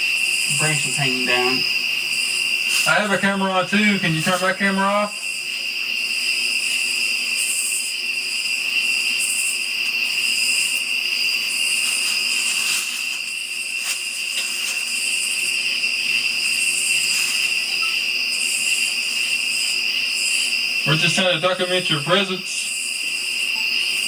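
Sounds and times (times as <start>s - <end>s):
crickets trilling: 0.0s - 24.0s
shrill insect calls: 0.0s - 24.0s.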